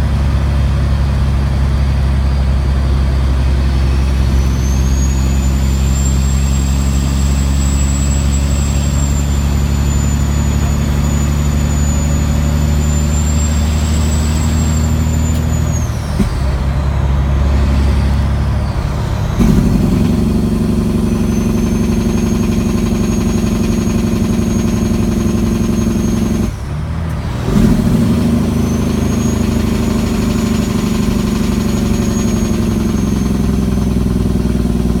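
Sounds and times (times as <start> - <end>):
diesel truck engine pulling hard: 0.0 - 35.0
turbo whistle: 3.6 - 26.6, 27.6 - 34.7.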